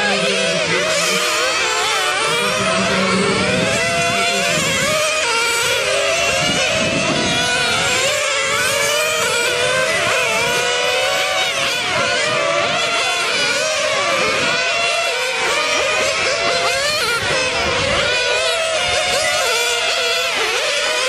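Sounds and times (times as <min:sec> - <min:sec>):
model car engines buzzing: 0:00.0 - 0:21.0.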